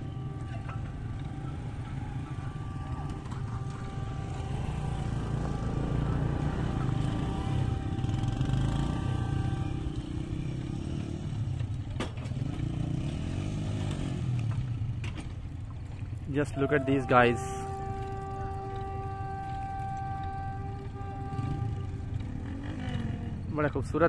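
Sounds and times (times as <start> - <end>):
faint locomotive horn: 0.0 - 11.8, 16.3 - 23.8
motorcycle idling: 0.0 - 13.1, 14.5 - 24.0
diesel locomotive approaching: 0.0 - 24.0.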